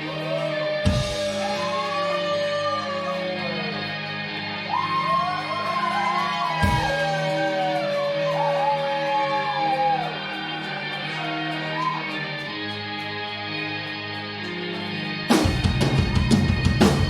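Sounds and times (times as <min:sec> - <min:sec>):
electric guitar lead notes: 0:00.0 - 0:17.0.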